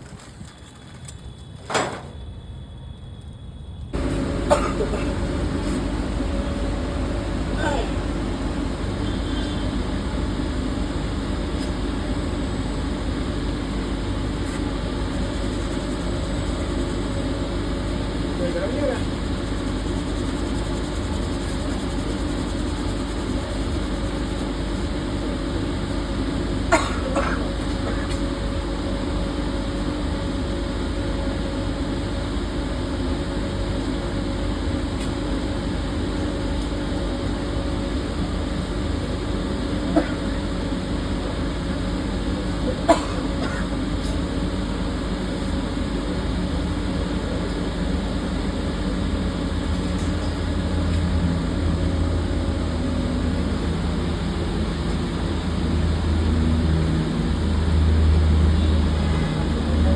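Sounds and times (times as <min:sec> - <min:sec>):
machine hum: 0:03.6 - 0:59.9.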